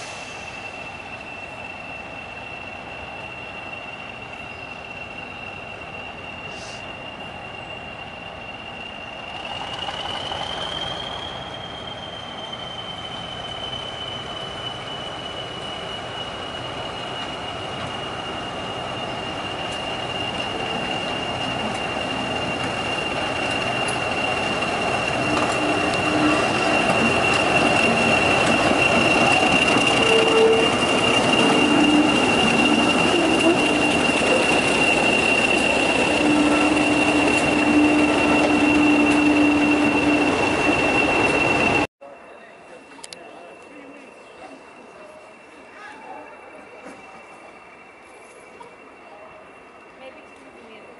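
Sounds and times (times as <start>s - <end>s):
high-pitched turbocharger whistle: 0.0s - 41.9s
diesel locomotive passing: 0.0s - 50.9s.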